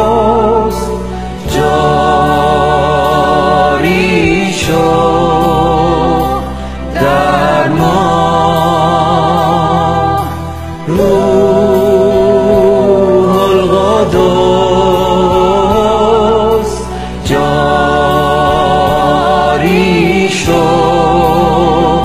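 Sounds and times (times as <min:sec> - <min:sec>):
karaoke backing track: 0:00.0 - 0:22.0
man and woman singing duet: 0:00.0 - 0:22.0.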